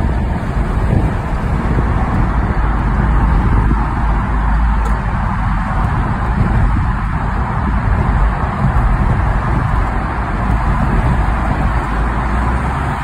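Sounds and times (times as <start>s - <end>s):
road and tyre noise: 0.0s - 13.0s.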